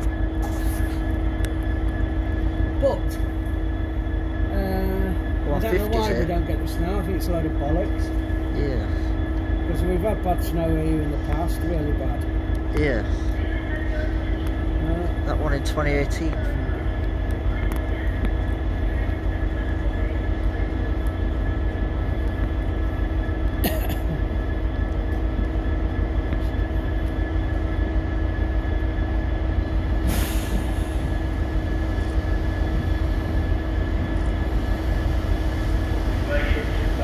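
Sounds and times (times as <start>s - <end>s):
diesel train rumble and whine: 0.0s - 37.0s.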